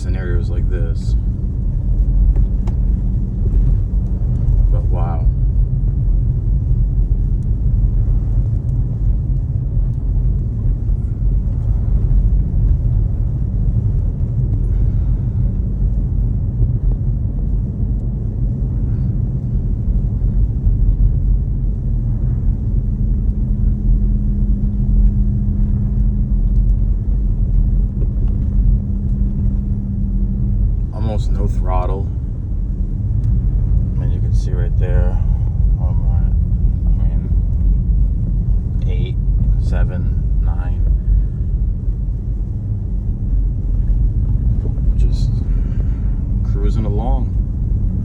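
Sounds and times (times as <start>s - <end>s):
car engine and road noise: 0.0s - 48.0s
engine hum: 0.0s - 48.0s.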